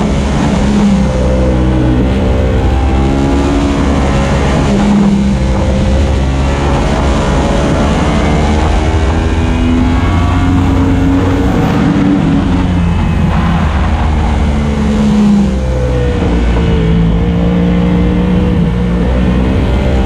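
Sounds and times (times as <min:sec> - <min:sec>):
motorcycle engine revving: 0:00.0 - 0:20.0
wind rush: 0:00.0 - 0:20.0.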